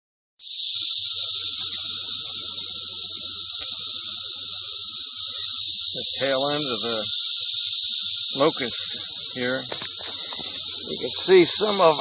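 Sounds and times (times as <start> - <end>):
cicadas buzzing: 0.4 - 12.0.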